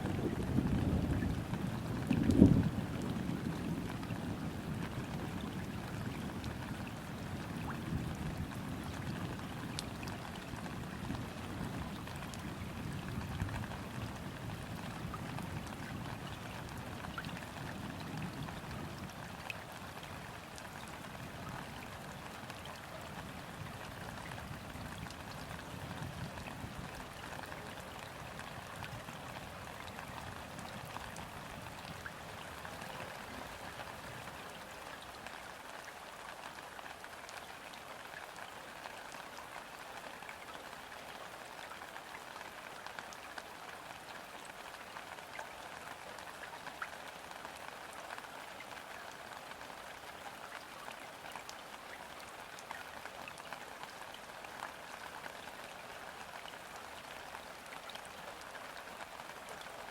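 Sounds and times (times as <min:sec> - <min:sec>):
rain falling on water: 0:00.0 - 0:59.9.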